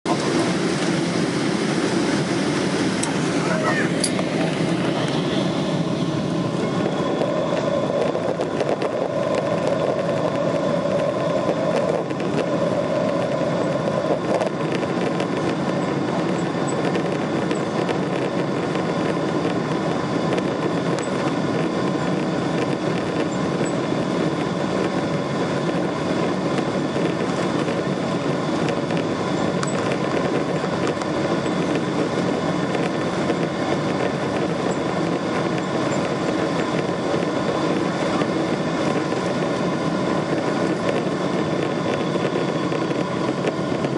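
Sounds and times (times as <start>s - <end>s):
jet engines running: 0.1s - 43.9s.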